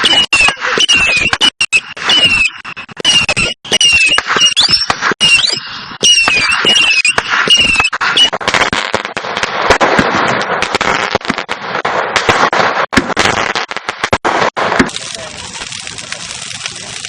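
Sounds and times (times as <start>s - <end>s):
firework whistles: 0.0s - 15.9s
firework crackling: 0.0s - 17.0s.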